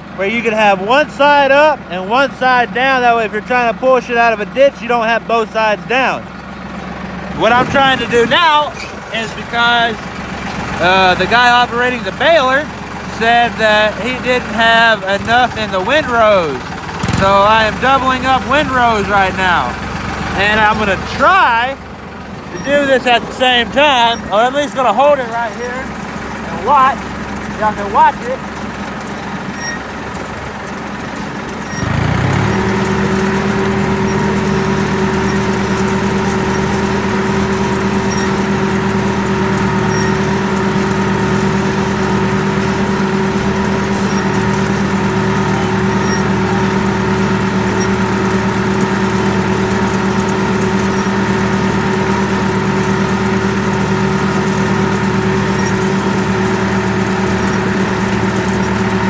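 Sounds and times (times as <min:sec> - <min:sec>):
tractor engine revving: 0:00.0 - 0:59.0.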